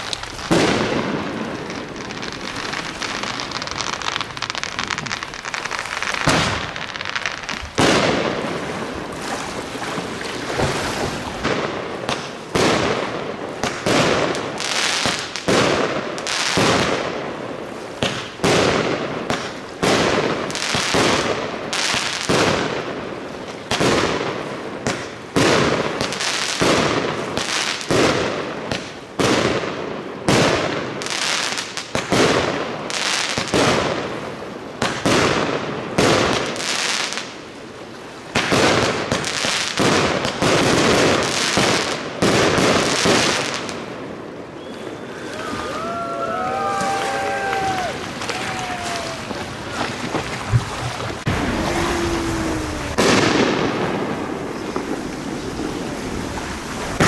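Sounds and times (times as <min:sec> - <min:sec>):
fireworks bangs: 0:00.0 - 0:09.4, 0:10.0 - 0:34.2, 0:34.8 - 0:37.4, 0:38.3 - 0:57.0
fireworks crackling: 0:00.0 - 0:37.5, 0:38.3 - 0:57.0.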